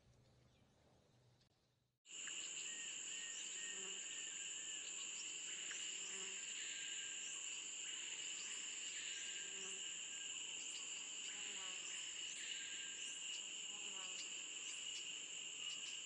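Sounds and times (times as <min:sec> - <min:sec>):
shrill insect chorus: 0:02.1 - 0:16.0.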